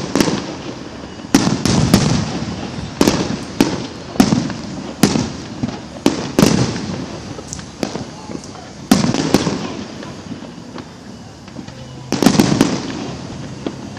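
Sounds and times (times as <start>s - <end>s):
fireworks bangs: 0.0s - 13.9s.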